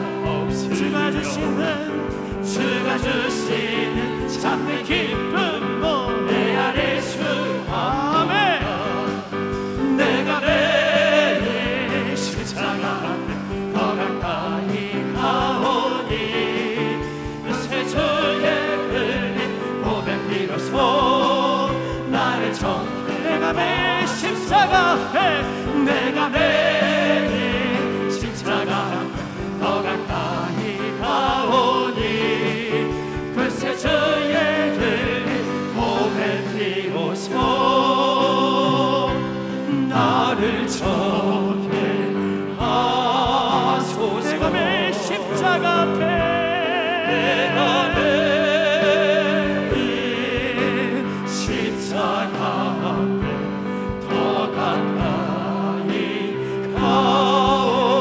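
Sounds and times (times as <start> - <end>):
mixed voices singing worship song: 0.0 - 58.0.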